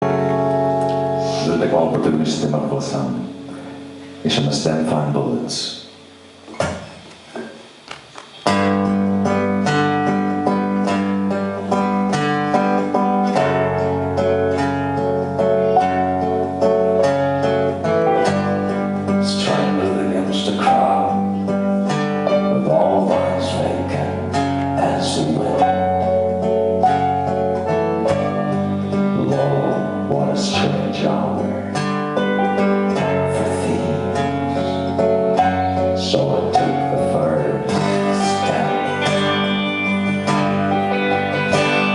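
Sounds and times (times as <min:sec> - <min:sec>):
live band playing country-folk: 0:00.0 - 0:04.8, 0:08.4 - 0:41.9
plucked acoustic guitar: 0:00.0 - 0:05.4, 0:06.4 - 0:41.9
sustained bass notes: 0:00.0 - 0:41.9.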